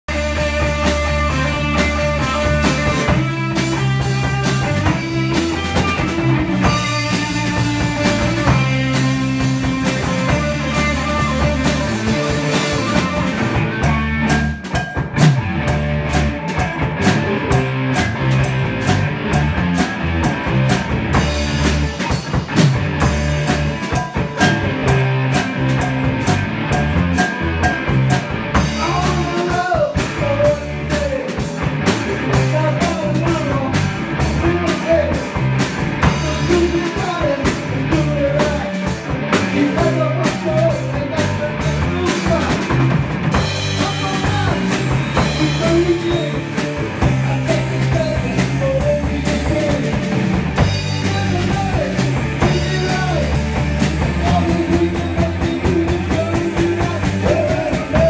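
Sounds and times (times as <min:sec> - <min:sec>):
rock band playing instrumental: 0:00.0 - 0:58.0.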